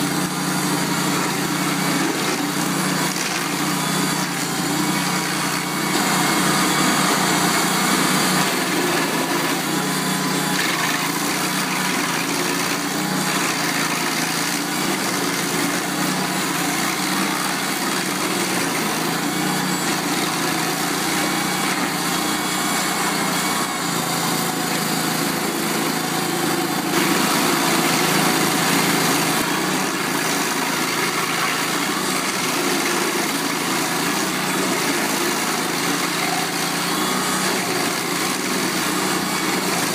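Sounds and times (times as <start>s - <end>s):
cutter wheel grinding roots: 0.0s - 39.9s
stump grinder engine: 0.0s - 39.9s.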